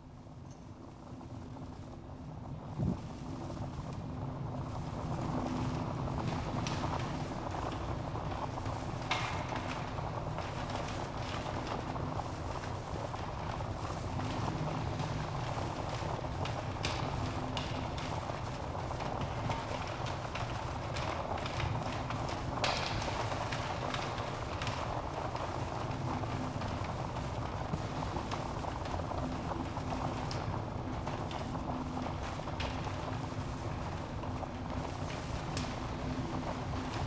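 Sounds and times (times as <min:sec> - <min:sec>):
wood fire burning: 0:03.0 - 0:37.0
logs crackling and popping: 0:05.8 - 0:37.0.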